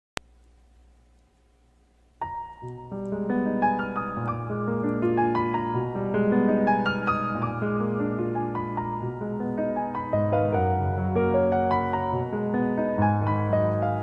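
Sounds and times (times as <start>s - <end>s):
piano music: 2.2s - 14.0s.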